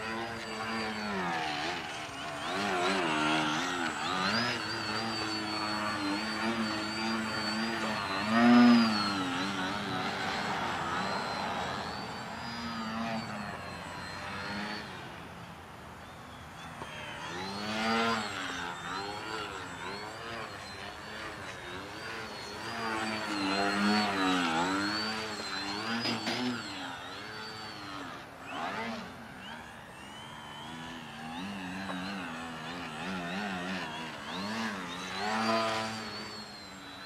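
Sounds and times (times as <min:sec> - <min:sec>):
model plane motor whining: 0:00.0 - 0:37.0.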